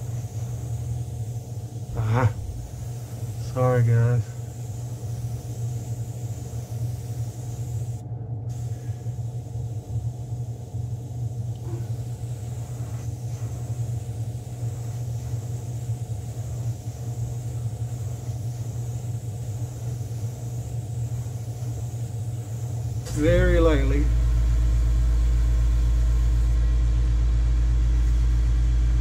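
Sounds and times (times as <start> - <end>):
exhaust fan humming: 0.0 - 29.0.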